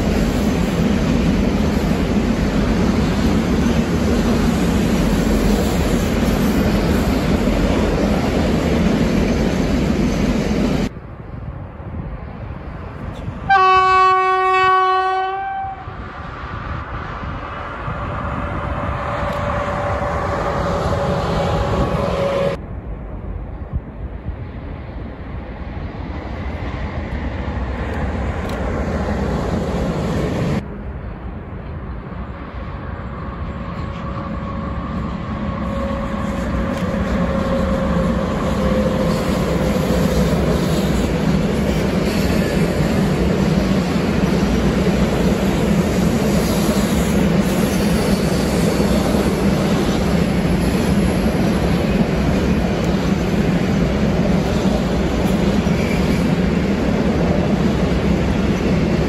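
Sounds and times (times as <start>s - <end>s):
train wagons rumbling on rails: 0.0s - 59.0s.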